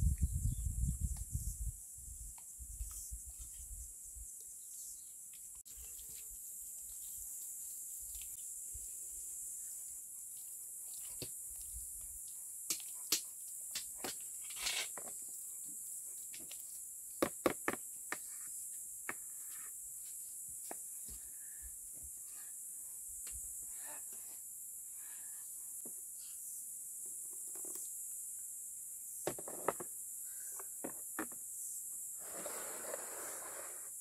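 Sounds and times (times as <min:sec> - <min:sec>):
insect chirring: 0:00.1 - 0:20.4, 0:24.6 - 0:34.0.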